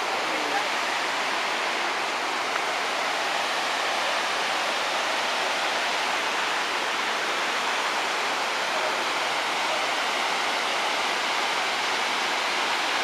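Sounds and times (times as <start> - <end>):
water roaring over spillway: 0.0 - 13.0.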